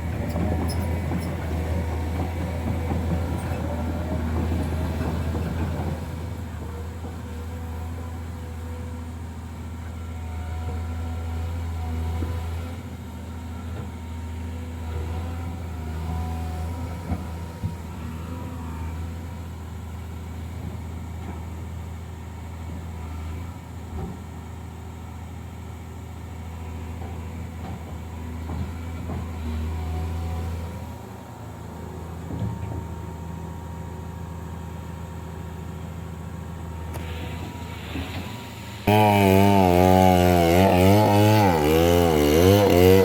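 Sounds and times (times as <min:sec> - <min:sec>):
large engine running: 0:00.0 - 0:43.0.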